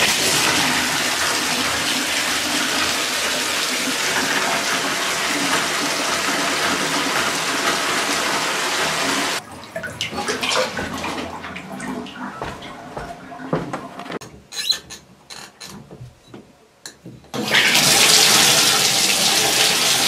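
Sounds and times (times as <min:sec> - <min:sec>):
water rushing from bathtub spout: 0:00.0 - 0:13.5, 0:17.4 - 0:20.0.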